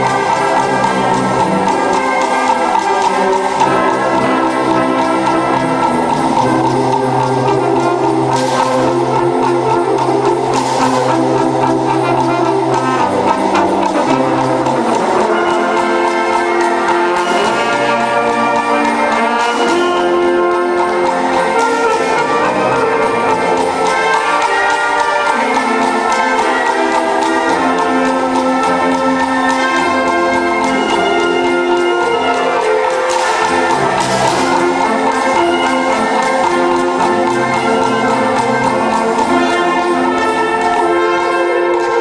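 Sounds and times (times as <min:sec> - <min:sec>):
wind band playing: 0:00.0 - 0:42.0.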